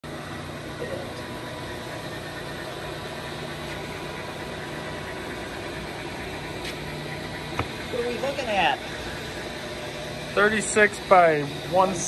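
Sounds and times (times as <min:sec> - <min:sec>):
mechanical hum: 0:00.0 - 0:12.0
faint steady tones: 0:00.1 - 0:12.0.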